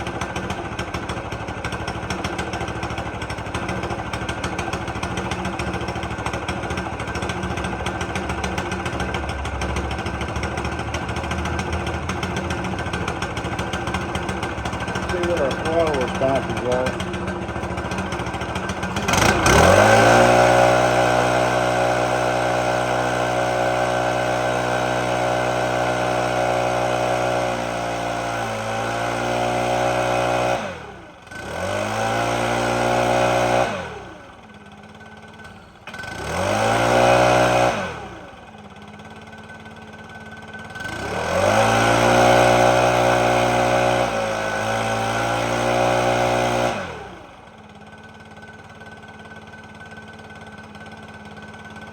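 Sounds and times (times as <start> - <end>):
leaf blower engine revving: 0.0 - 51.9.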